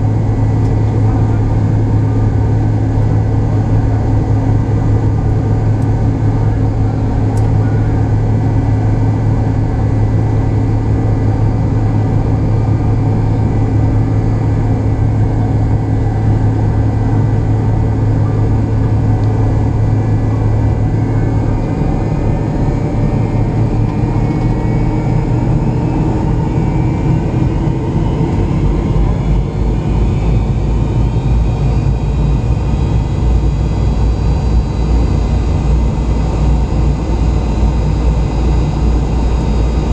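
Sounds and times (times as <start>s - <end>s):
jet engines humming low: 0.0s - 39.9s
rising engine whine: 0.0s - 39.9s.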